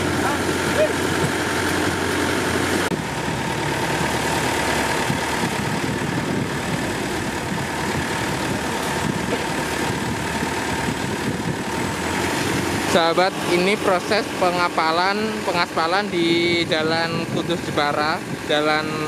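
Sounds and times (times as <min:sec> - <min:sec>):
paving machine engine running: 0:00.0 - 0:19.0.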